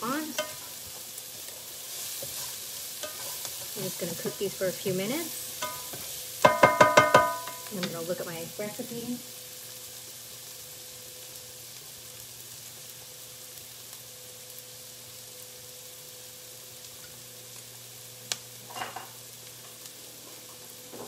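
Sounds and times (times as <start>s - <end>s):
onions sizzling in butter: 0.0s - 21.0s.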